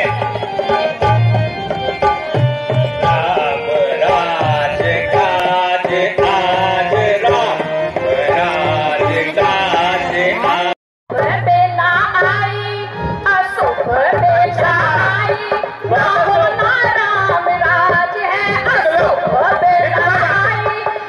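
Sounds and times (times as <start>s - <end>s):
tabla drumming: 0.0s - 21.0s.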